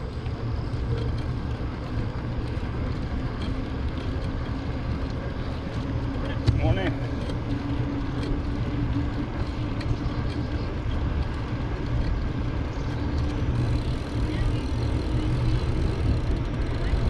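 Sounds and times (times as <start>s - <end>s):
bicycle rolling on pavement: 0.0s - 17.0s
faint hum: 0.0s - 17.0s.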